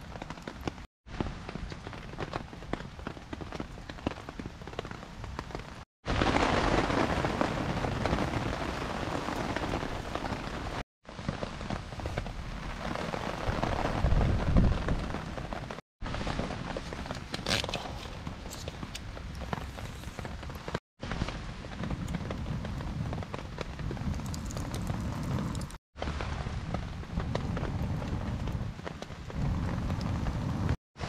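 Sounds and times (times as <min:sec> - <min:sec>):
rain pattering on a tarp: 0:00.0 - 0:30.8
wood fire crackling and popping: 0:00.0 - 0:30.8.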